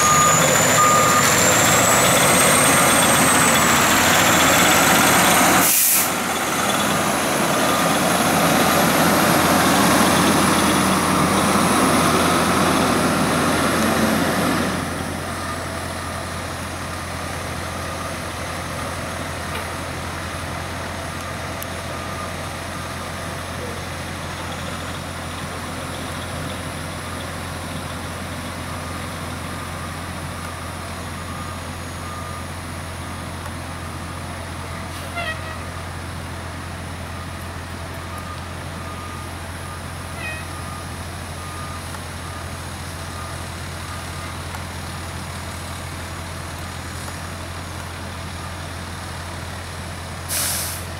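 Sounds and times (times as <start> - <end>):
fire truck diesel engine running: 0.0 - 50.9.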